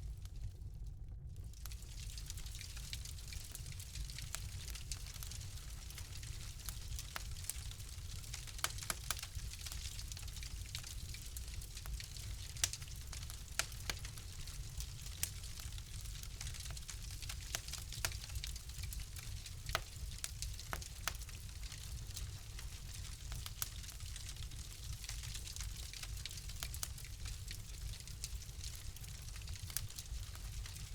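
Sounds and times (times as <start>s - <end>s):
fire crackling: 0.0s - 30.9s.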